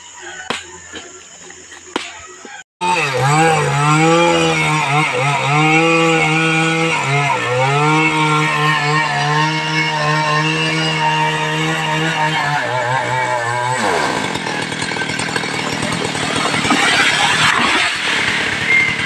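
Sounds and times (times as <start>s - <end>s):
chainsaw cutting at high revs: 2.8s - 19.0s.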